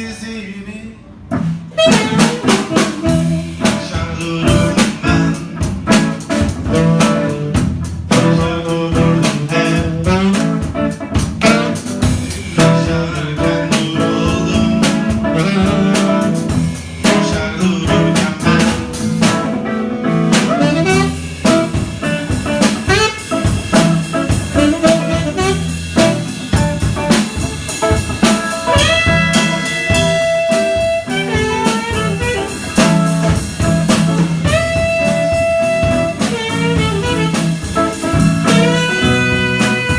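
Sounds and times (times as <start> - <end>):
guitar: 1.0 - 39.9
drum kit: 1.2 - 39.9
saxophone: 1.7 - 39.9.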